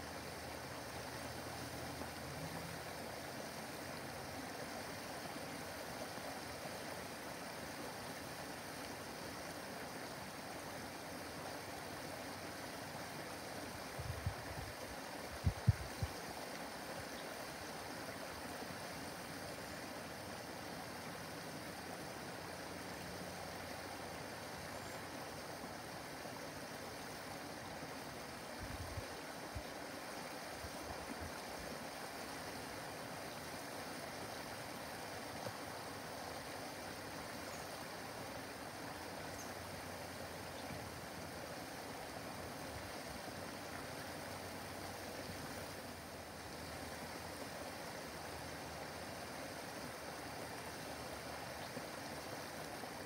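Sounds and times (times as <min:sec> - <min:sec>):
waterfall rushing over rocks: 0:00.0 - 0:53.0.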